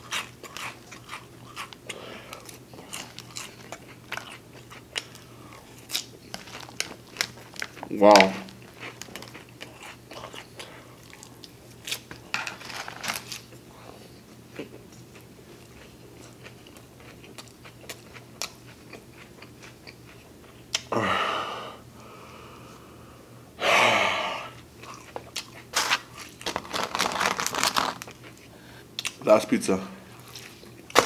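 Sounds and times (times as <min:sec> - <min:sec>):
chewing crunchy lettuce: 0:00.0 - 0:20.9, 0:24.8 - 0:29.3, 0:30.0 - 0:31.0.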